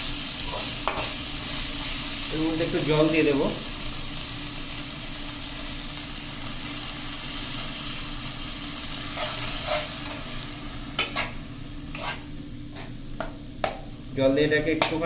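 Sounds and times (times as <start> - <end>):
masala sizzling in hot oil: 0.0 - 15.0.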